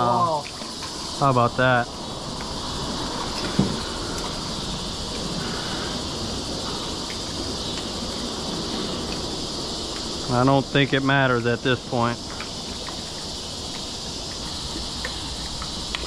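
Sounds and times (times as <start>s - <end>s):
insects droning: 0.0s - 16.0s
broad rushing hiss: 0.4s - 16.0s.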